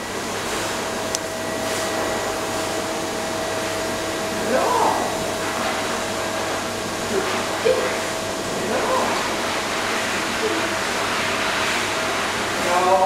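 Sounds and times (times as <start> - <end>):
pool pump machinery hum: 0.0 - 13.0.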